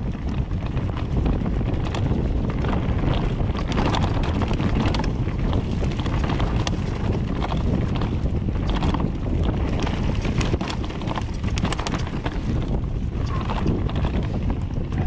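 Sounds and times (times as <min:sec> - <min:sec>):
bike clicks and rattles: 0:00.0 - 0:15.0
bike tyres rumbling: 0:00.0 - 0:15.0
wind buffeting microphone: 0:00.0 - 0:15.0.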